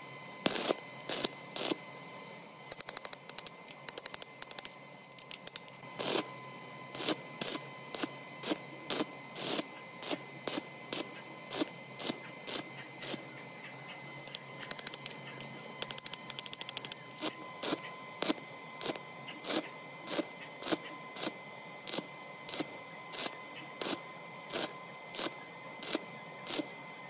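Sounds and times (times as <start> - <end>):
arc welding crackling: 0.4 - 1.9, 2.7 - 6.3, 6.9 - 13.3, 14.2 - 26.7.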